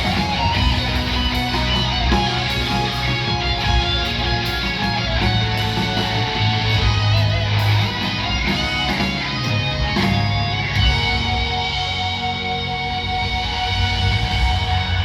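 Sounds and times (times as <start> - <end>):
bass guitar: 0.0 - 15.0
live rock band instrumental: 0.0 - 15.0
strummed guitars: 0.0 - 15.0.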